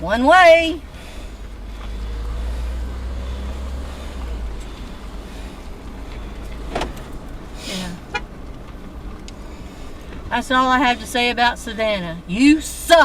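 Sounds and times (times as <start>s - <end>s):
car engine rumble inside cabin: 0.0s - 13.0s
road noise: 0.0s - 13.0s.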